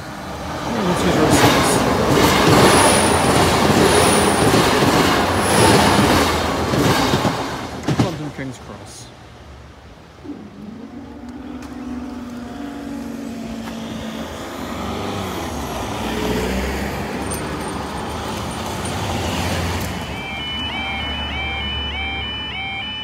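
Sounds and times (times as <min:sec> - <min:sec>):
car engines: 0:00.0 - 0:23.0.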